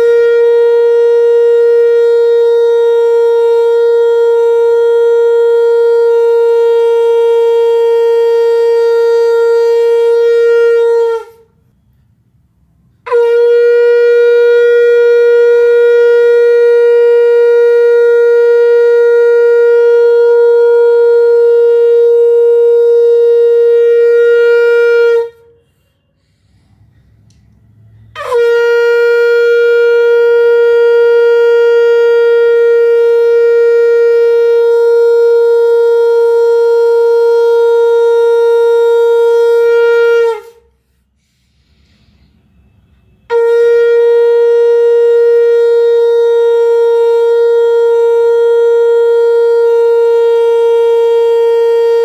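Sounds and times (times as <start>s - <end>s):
conch shell blasts: 0.0s - 11.9s, 13.0s - 52.0s.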